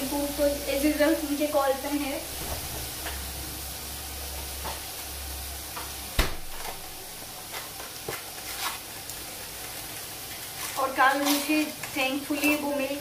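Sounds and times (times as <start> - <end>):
spices sizzling in a pan: 0.0 - 13.0.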